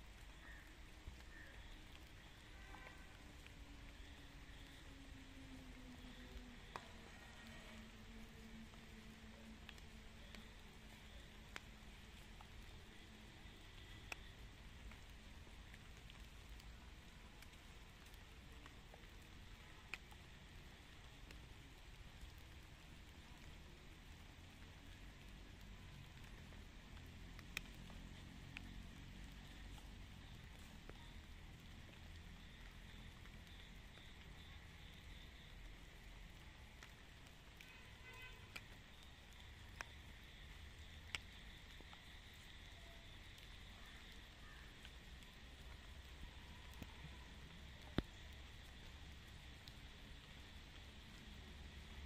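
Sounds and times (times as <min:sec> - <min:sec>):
drip ticks: 0:00.0 - 0:52.0
light rain hiss: 0:00.0 - 0:52.0.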